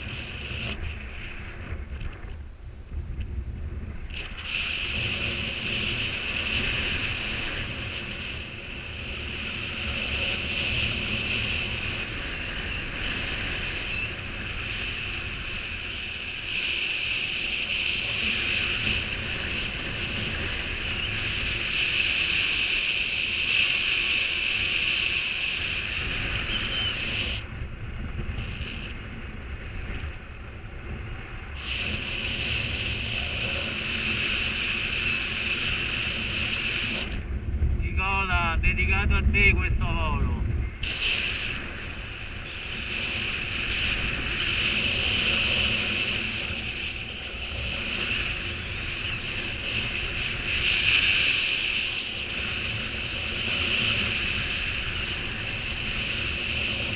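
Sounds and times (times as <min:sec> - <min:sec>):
wind rushing over microphone: 0:00.0 - 0:56.9.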